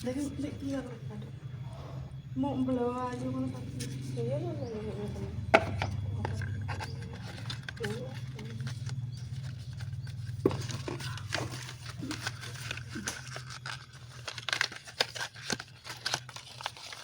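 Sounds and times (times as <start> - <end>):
low steady hum: 0.0 - 17.0
plastic packaging crinkling: 3.0 - 17.0.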